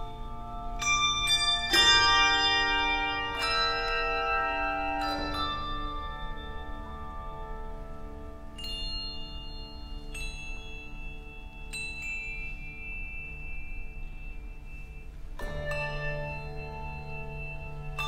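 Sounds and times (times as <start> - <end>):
handbells sustained low chord: 0.0 - 18.0
high bells struck: 0.0 - 18.0.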